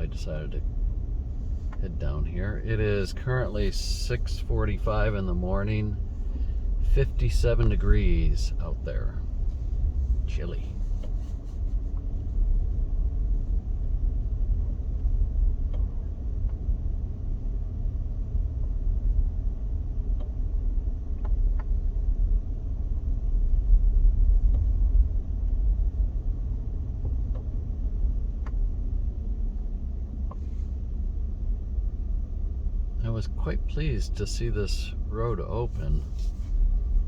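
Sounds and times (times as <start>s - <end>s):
car driving interior rumble: 0.0s - 37.0s.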